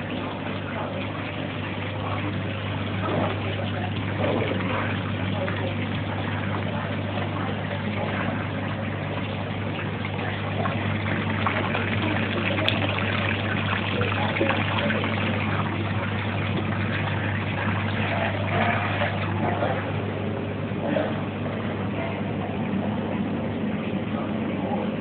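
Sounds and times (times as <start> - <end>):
aquarium pump humming: 0.0 - 25.0
water bubbling: 0.0 - 25.0.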